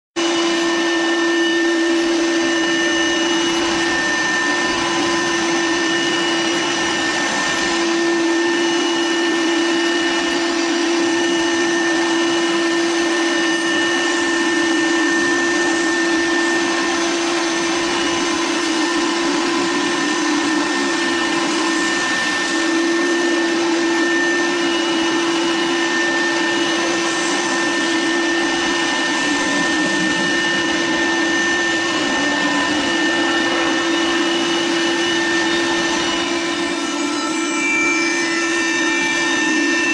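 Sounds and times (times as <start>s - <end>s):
machine motors whirring: 0.2s - 39.9s
whining tones: 0.2s - 39.9s.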